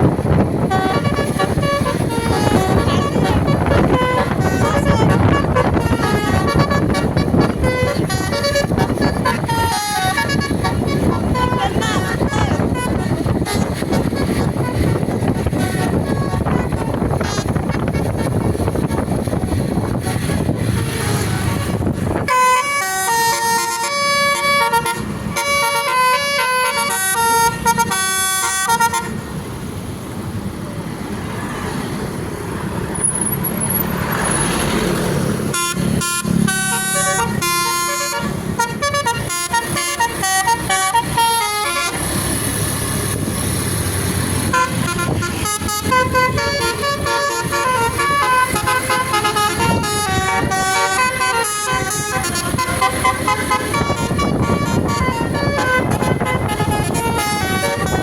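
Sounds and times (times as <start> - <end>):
multi-tone bus horn melody: 0.0 - 29.8, 33.5 - 58.0.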